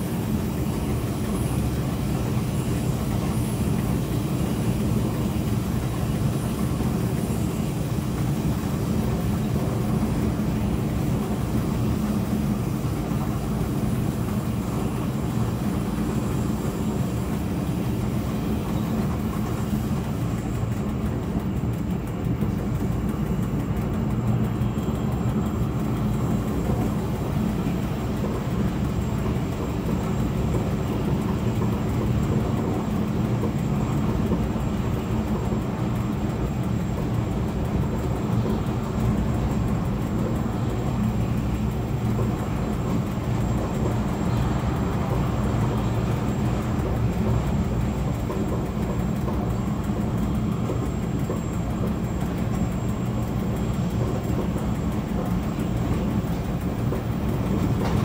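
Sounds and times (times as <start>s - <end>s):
electric locomotive rumble and hum: 0.0s - 58.0s.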